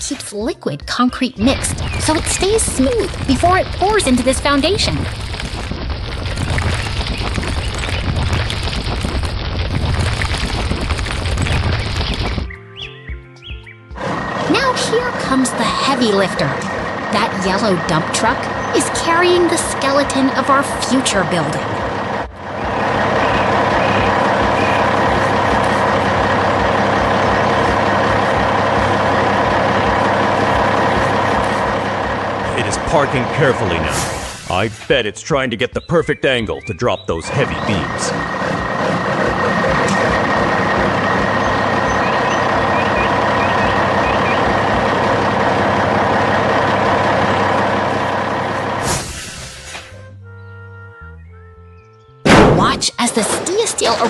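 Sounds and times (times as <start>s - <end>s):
dump truck engine running: 0.0s - 35.6s, 37.0s - 54.0s.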